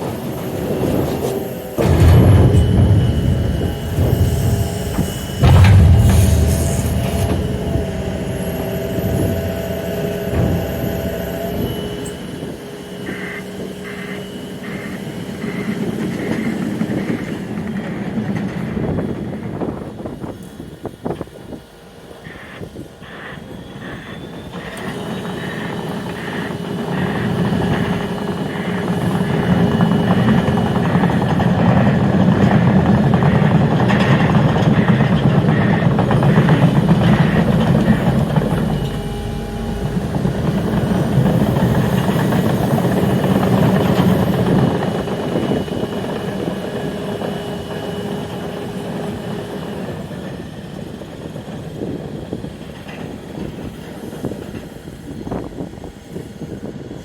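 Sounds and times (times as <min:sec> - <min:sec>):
train passing: 0:00.0 - 0:21.0, 0:21.6 - 0:50.2.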